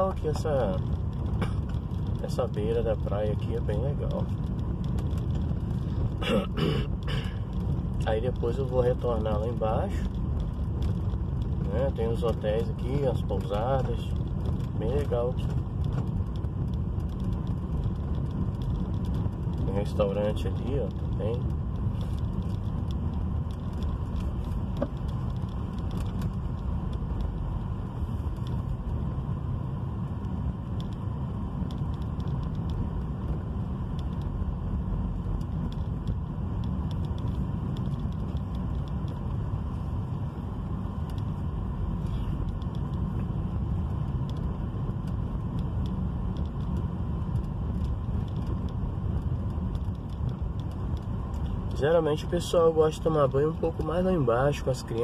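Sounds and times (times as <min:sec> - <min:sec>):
car engine and tyres rumbling: 0:00.0 - 0:55.0
faint light ticks: 0:06.8 - 0:55.0.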